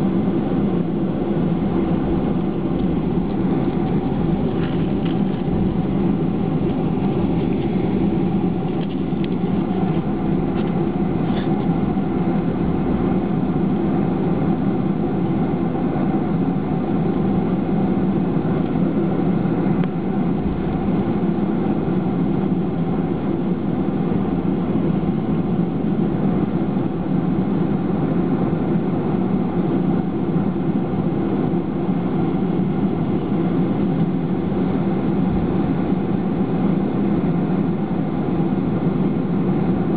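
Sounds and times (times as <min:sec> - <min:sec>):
jet engines humming in cabin: 0:00.0 - 0:39.9.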